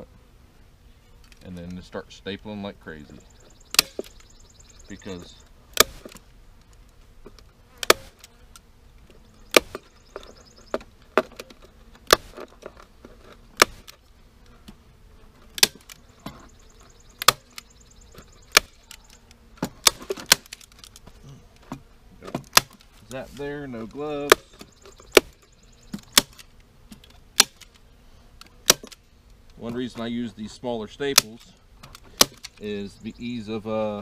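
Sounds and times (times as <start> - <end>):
bees buzzing faintly: 0.0 - 34.0.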